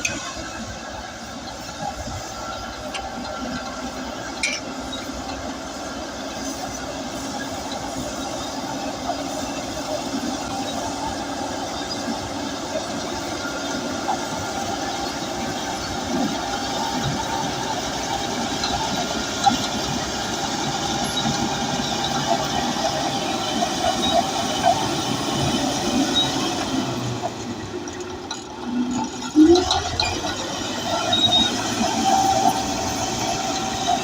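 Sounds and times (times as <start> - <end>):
bulldozer diesel engine running: 0.0 - 34.0
steel tracks clattering and squeaking: 0.0 - 34.0.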